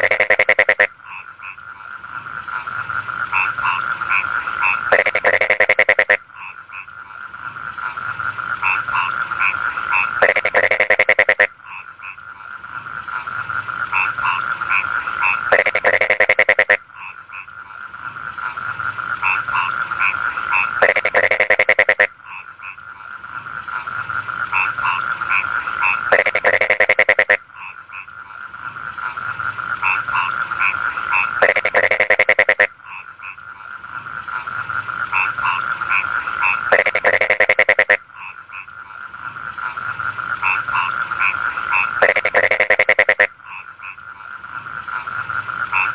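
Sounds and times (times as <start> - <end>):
frogs croaking in chorus: 0.0 - 45.9.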